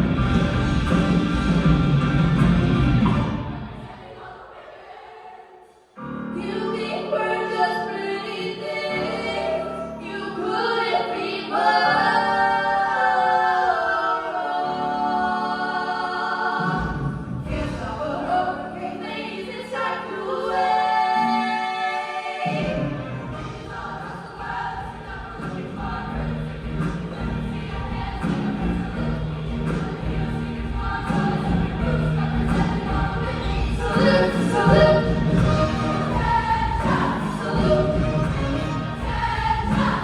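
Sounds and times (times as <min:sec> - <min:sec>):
choir singing in harmony: 0:00.0 - 0:40.0.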